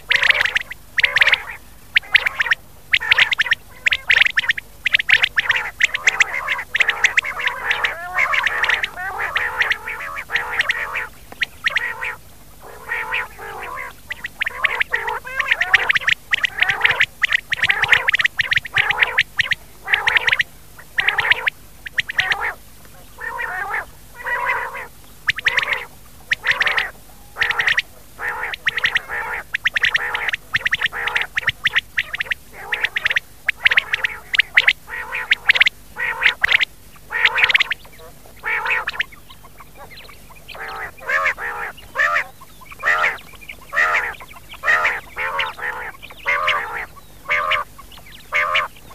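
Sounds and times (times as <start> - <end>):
quail calls: 0.0 - 48.9.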